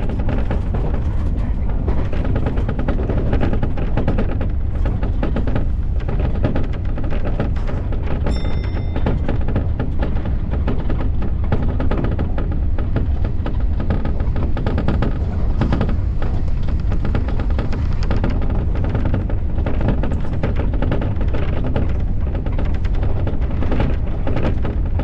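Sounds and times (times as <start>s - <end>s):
electric train rumbling: 0.0s - 25.0s
wheels clattering over rails: 0.0s - 25.0s.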